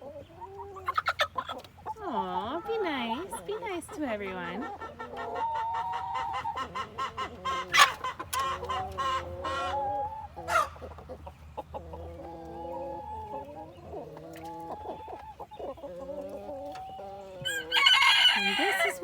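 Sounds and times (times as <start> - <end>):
chickens clucking and squawking: 0.0 - 19.0.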